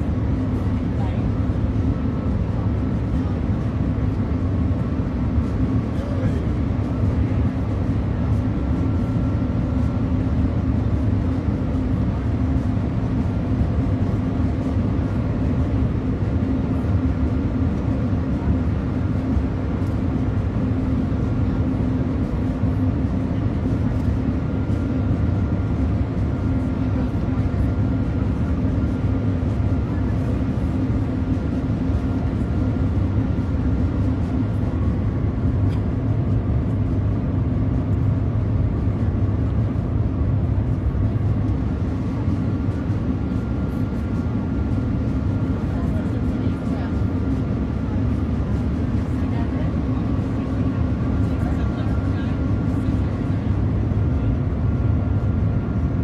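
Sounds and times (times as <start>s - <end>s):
train cabin rumble and rushing: 0.0s - 54.3s.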